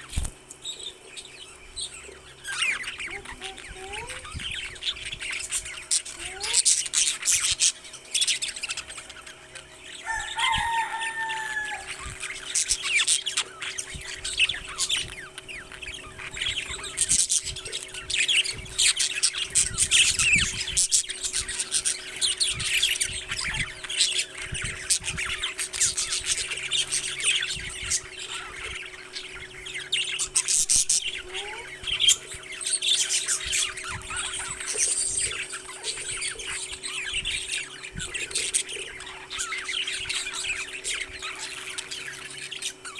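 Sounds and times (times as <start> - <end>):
faint steady hum: 0.0 - 42.9
parrots chirping and chattering: 0.0 - 42.9.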